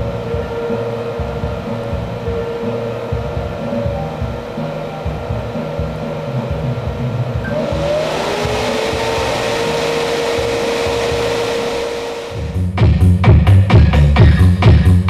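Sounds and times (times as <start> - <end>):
cooling fan whirring: 0.0 - 12.8.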